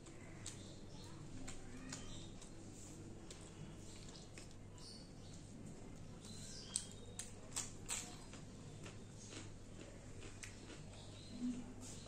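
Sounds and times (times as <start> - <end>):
chewing with mouth clicks: 0.0 - 4.7, 5.8 - 12.0.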